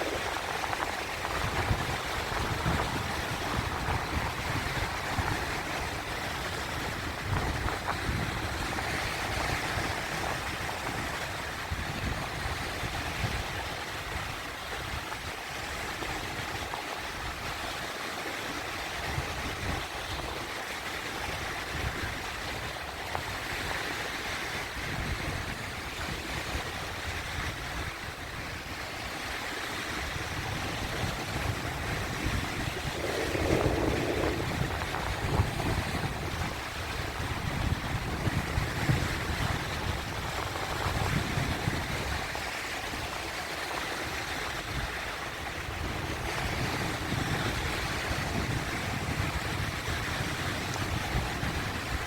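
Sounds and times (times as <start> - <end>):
sea waves breaking: 0.0 - 52.0.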